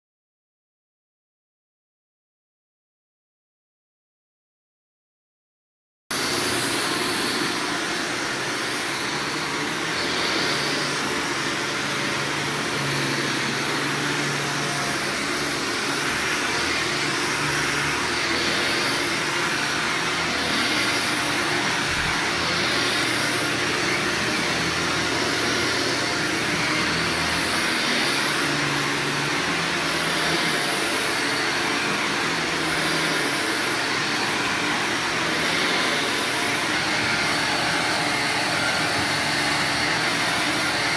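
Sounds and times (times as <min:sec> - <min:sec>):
vacuum cleaner on carpet: 0:06.1 - 0:40.9.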